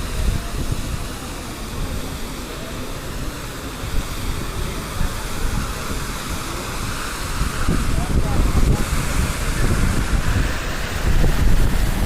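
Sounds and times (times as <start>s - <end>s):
wind buffeting microphone: 0.0s - 2.3s, 3.7s - 12.0s
low traffic rumble: 0.0s - 12.0s.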